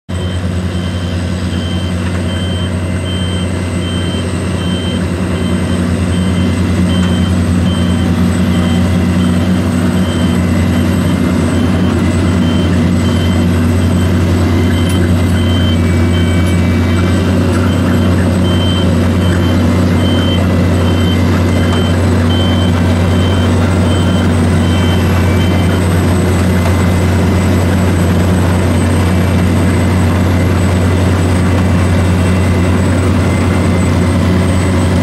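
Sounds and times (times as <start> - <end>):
harvester diesel engine humming: 0.1 - 35.0
high beeper: 0.1 - 35.0.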